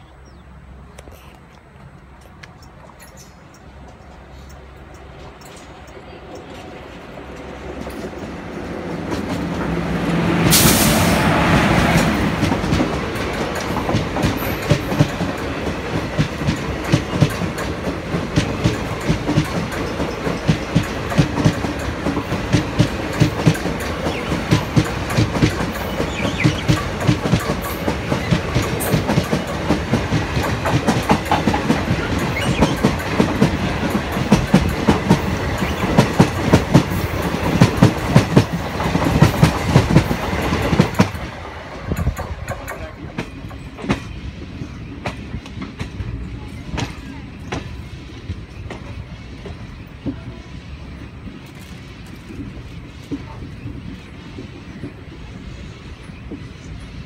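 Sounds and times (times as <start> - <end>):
train wheels clattering over rail joints: 1.9 - 50.3.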